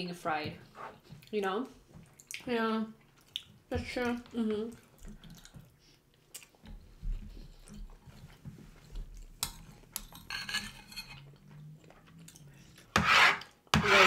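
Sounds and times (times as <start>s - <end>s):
people chewing: 0.8s - 10.3s, 11.2s - 12.9s.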